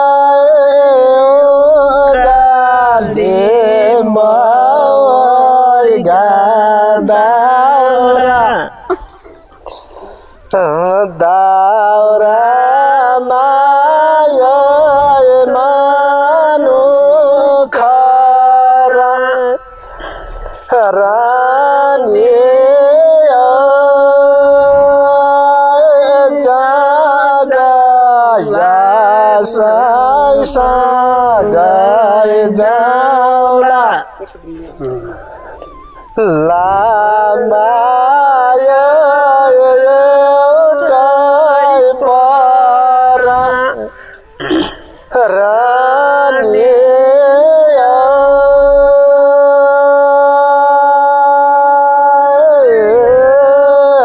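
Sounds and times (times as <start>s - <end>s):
man singing folk song: 0.0s - 9.0s, 10.1s - 35.2s, 36.2s - 54.0s.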